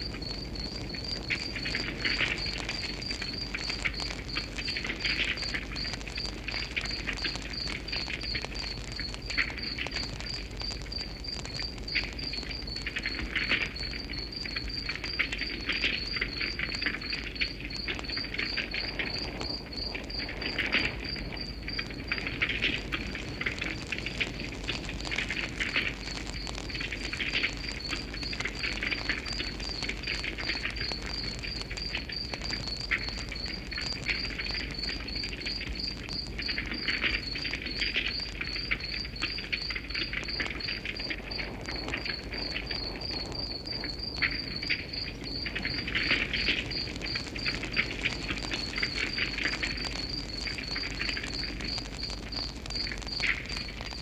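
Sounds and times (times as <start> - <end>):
insect chirping: 0.0 - 54.0
wood fire crackling: 0.0 - 54.0.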